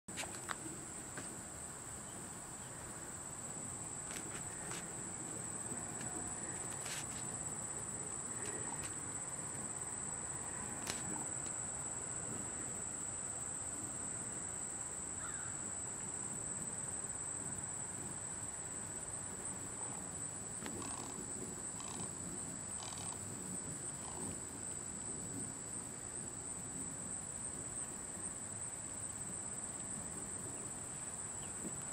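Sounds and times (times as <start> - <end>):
insects droning: 0.1 - 31.9.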